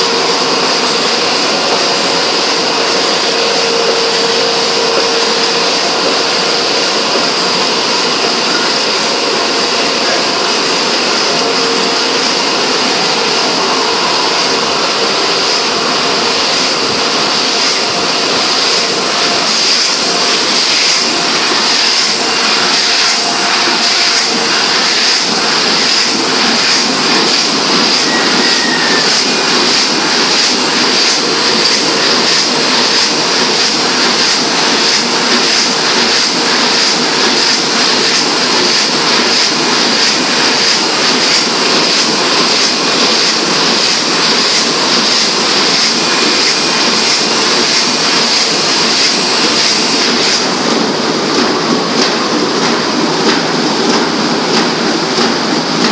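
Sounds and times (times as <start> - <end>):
printing press mechanical din: 0.0 - 55.9.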